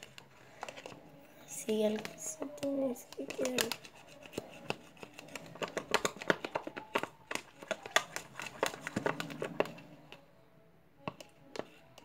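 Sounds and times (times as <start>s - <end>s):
slime crackling while stirred: 0.0s - 10.2s.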